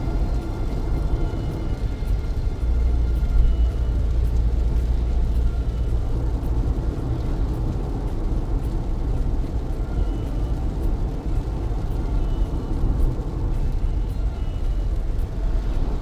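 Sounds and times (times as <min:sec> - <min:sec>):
car engine and road rumble: 0:00.0 - 0:16.0
rain on a car: 0:00.0 - 0:16.0.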